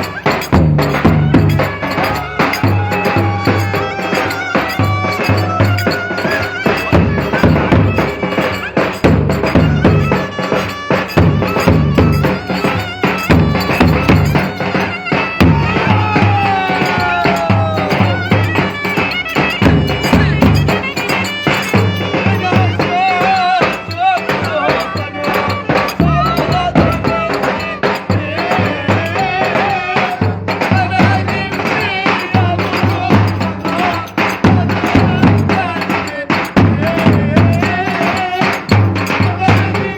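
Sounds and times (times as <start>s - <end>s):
loud drum beat: 0.0s - 39.9s
wind instrument melody: 0.0s - 39.9s.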